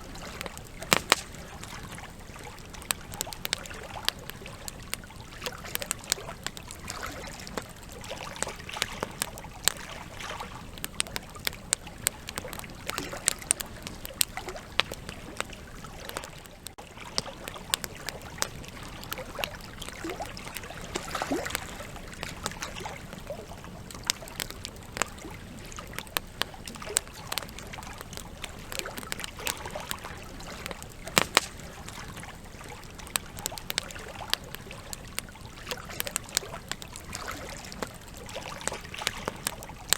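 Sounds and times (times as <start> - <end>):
campfire crackling and popping: 0.0 - 39.9
steady fire hiss: 0.0 - 39.9.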